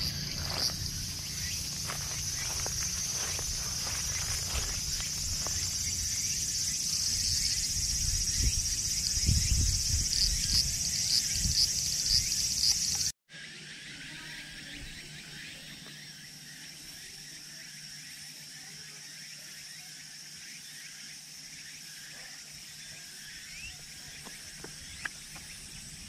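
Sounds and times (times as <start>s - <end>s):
insect chorus: 0.0s - 26.0s.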